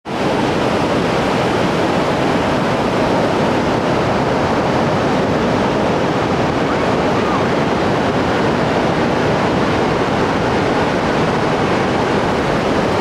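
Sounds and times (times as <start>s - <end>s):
ocean waves breaking on beach: 0.1s - 13.0s.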